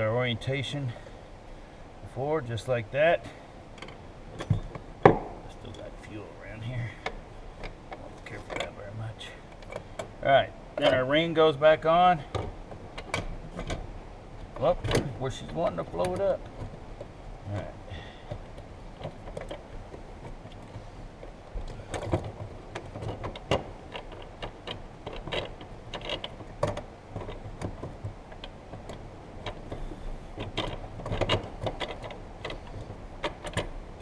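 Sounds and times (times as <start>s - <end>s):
hard parts clicking and knocking: 3.7s - 34.0s.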